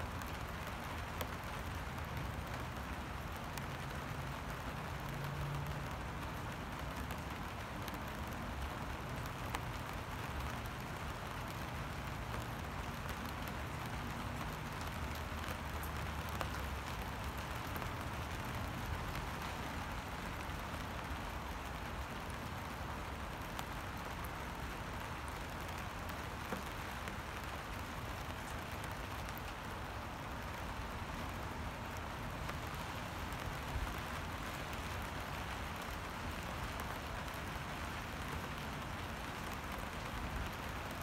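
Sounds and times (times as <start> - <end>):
rain falling on a puddle: 0.0 - 41.0.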